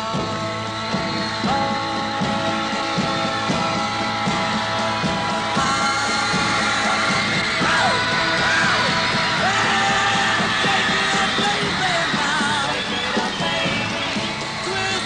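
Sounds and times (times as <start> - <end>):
fans screaming: 0.0 - 15.0
rock and roll band playing and singing: 0.0 - 15.0.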